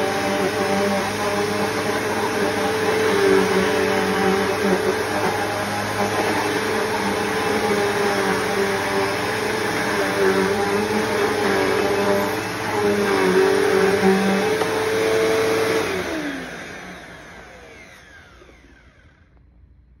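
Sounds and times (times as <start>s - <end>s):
vacuum cleaner motor whine: 0.0s - 19.9s.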